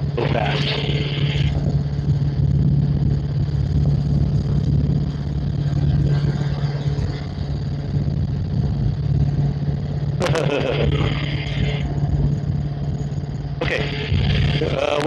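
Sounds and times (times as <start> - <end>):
helicopter flying past: 0.0 - 15.0.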